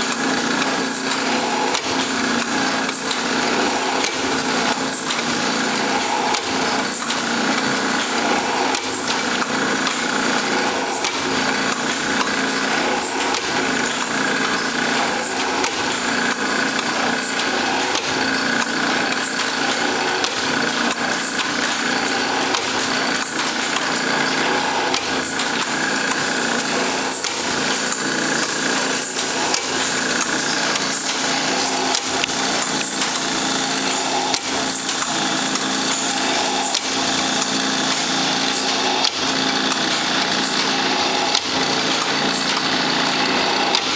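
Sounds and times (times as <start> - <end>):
drill bit boring plastic pipe: 0.0 - 43.9
drill motor running: 0.0 - 43.9.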